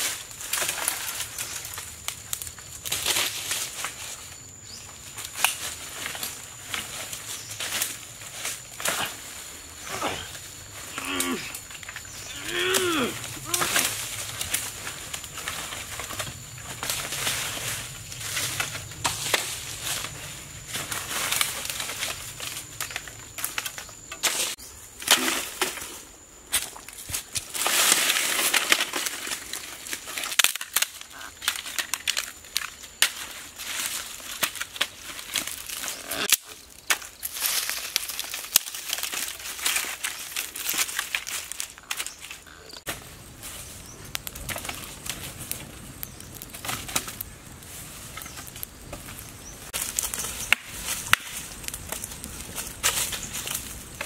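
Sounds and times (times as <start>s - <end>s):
dry twigs snapping: 0.0s - 4.2s, 4.8s - 9.5s, 10.2s - 25.8s, 26.5s - 54.0s
dry leaves rustling and crunching: 0.0s - 54.0s.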